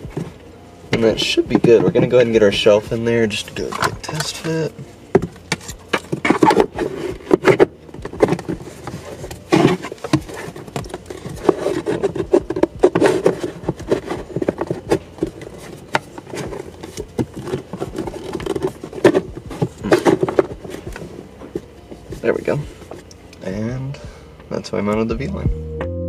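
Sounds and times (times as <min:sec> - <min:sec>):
plastic scraping and rubbing: 0:00.0 - 0:23.1.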